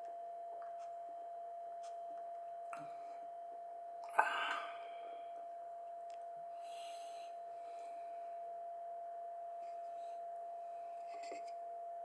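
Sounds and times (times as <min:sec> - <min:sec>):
high-pitched tone humming: 0:00.0 - 0:12.0.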